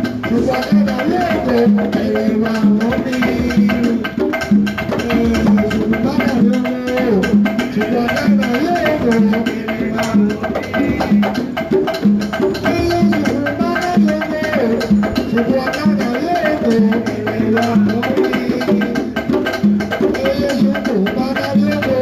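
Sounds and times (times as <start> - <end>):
latin band music: 0.0 - 22.0.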